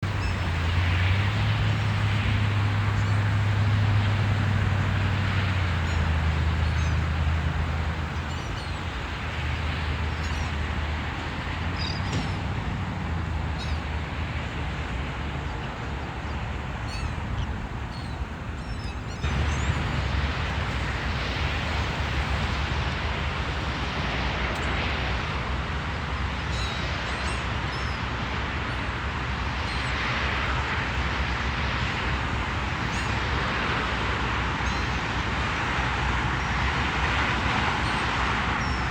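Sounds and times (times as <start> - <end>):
outdoor rush with low rumble: 0.0 - 38.9.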